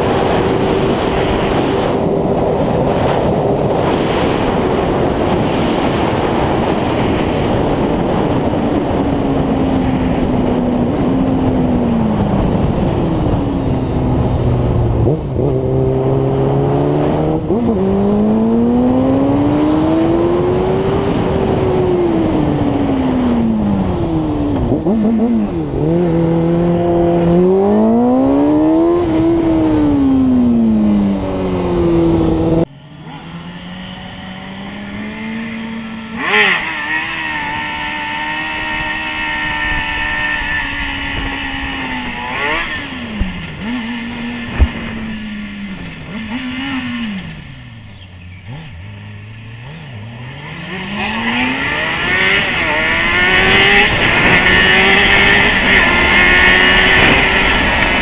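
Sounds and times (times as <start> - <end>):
motorcycle engine accelerating: 0.0 - 58.0
sport motorcycle revving: 0.0 - 58.0.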